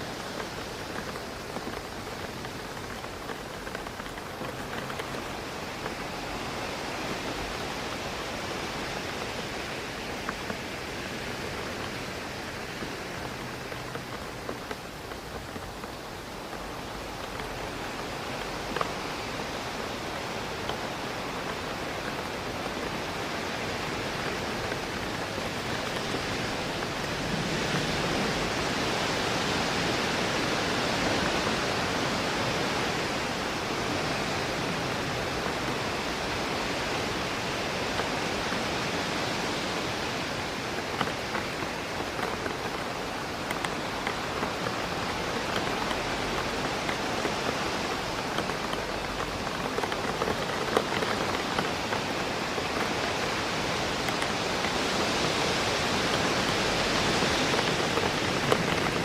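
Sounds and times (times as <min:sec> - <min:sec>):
raindrops tapping on window: 0:00.0 - 0:59.0
steady rain: 0:00.0 - 0:59.0
wind rushing through trees: 0:00.0 - 0:59.0.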